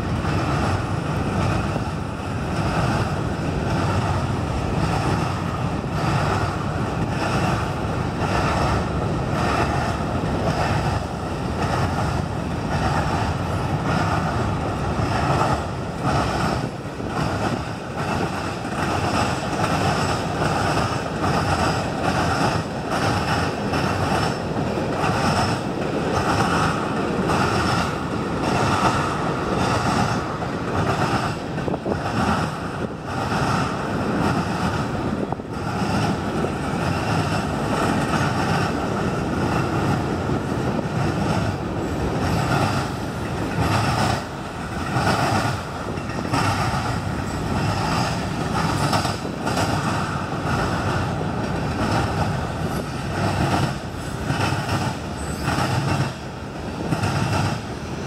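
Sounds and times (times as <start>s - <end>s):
freight train wheels rumbling: 0.0s - 58.0s
wind buffeting microphone: 0.0s - 58.0s.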